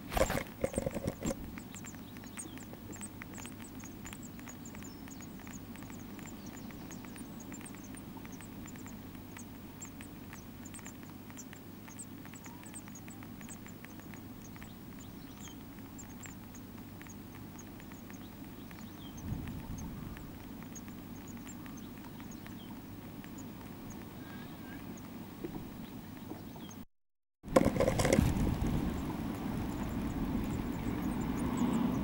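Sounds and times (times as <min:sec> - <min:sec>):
nestlings cheeping: 0:00.0 - 0:26.8, 0:27.5 - 0:32.0
steady low hum: 0:00.0 - 0:26.8, 0:27.5 - 0:32.0.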